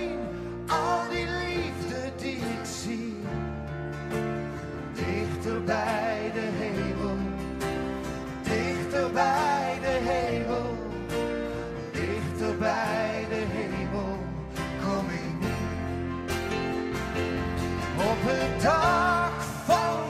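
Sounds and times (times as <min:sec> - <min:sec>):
song with singing and beat: 0:00.0 - 0:03.5, 0:04.8 - 0:16.1, 0:17.8 - 0:20.0.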